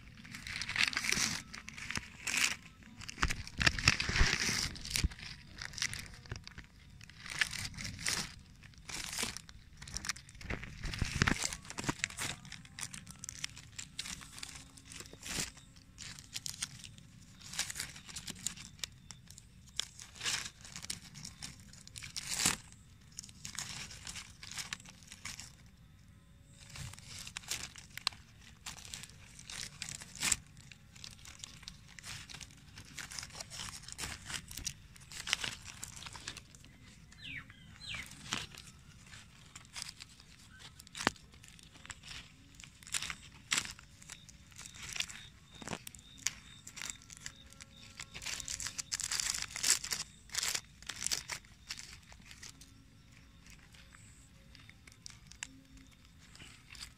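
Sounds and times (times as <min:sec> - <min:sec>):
plastic strip crinkling: 0:00.0 - 0:25.8, 0:26.4 - 0:56.9.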